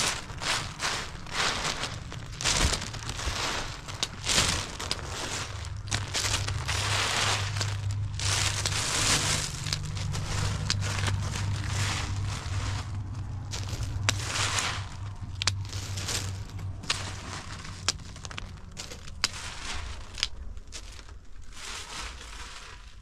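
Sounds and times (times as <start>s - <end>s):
steady low hum: 0.0s - 22.9s
plastic bag crinkling: 0.0s - 23.0s.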